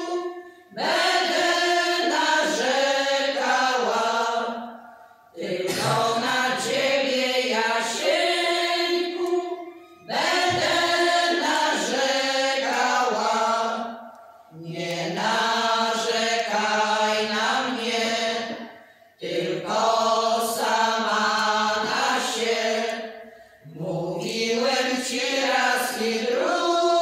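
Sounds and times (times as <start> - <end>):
women's choir singing unaccompanied: 0.0 - 27.0.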